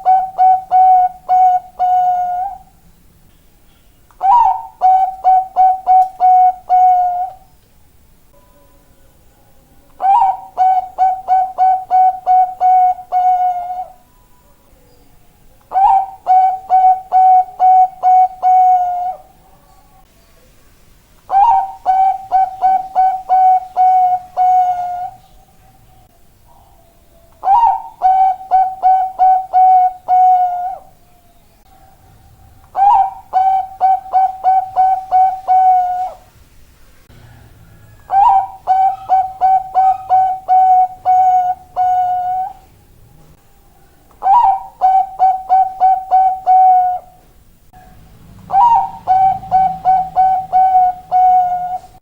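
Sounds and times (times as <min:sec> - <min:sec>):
dove cooing: 0:00.0 - 0:02.8, 0:04.2 - 0:07.5, 0:09.9 - 0:14.0, 0:15.7 - 0:20.0, 0:21.3 - 0:25.8, 0:26.5 - 0:36.3, 0:37.2 - 0:42.7, 0:43.8 - 0:52.0.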